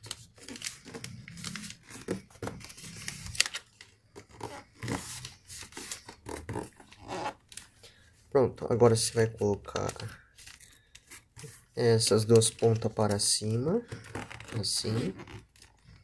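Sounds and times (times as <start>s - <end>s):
paper rustling and crinkling: 0.0s - 8.0s, 8.9s - 16.0s.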